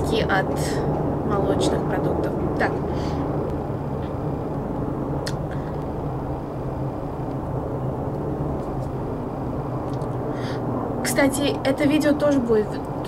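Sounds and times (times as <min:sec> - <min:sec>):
low-flying airplane rumble: 0:00.0 - 0:13.0.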